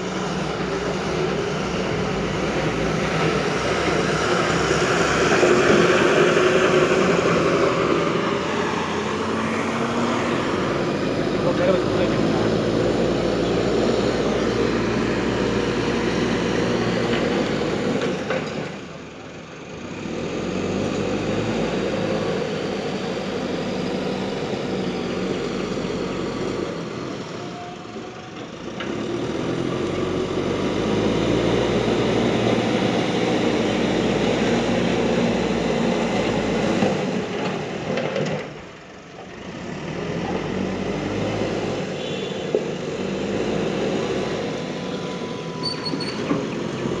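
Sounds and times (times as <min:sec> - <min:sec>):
heavy vehicle engines running: 0:00.0 - 0:47.0.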